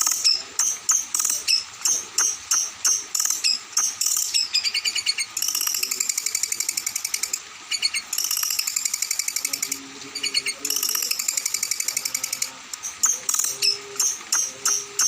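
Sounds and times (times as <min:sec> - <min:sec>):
songbird rattling chatter: 0:00.0 - 0:15.0.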